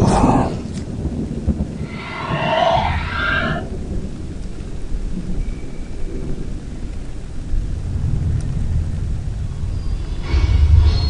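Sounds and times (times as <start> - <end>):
steady rain: 0.0 - 10.8
low rolling thunder: 0.0 - 11.0.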